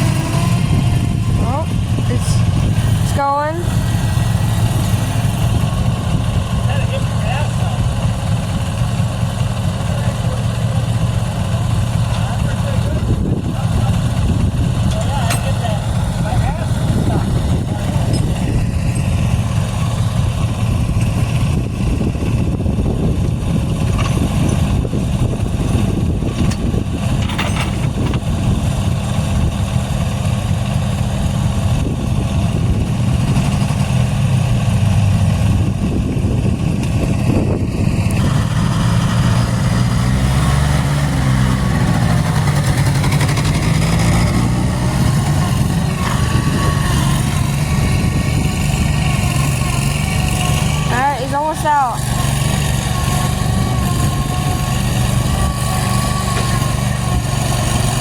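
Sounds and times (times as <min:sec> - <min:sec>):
engine revving under load: 0:00.0 - 0:58.0
vehicle engines running: 0:00.0 - 0:58.0.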